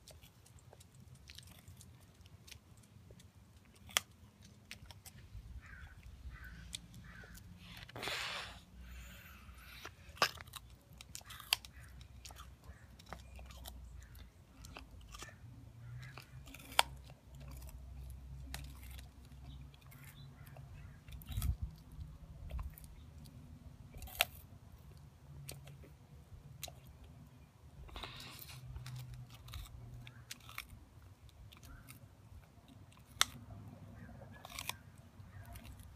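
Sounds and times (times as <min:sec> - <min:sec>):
tortoise crunching carrots: 0:00.0 - 0:35.9.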